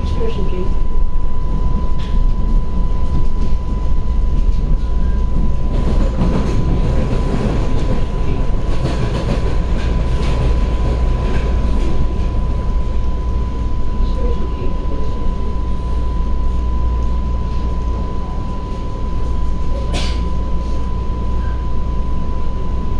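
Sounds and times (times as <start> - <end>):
subway train rumbling on rails: 0.0 - 22.9.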